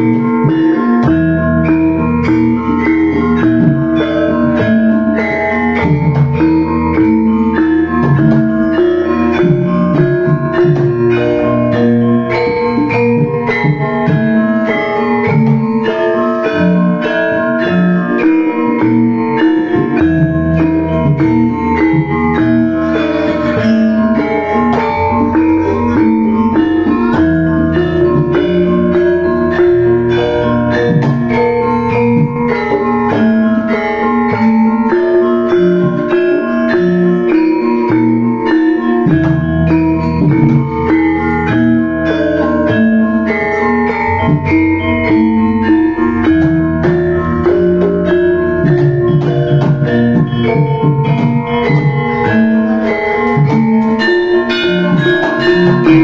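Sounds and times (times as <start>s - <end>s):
gamelan music: 0.0s - 56.0s.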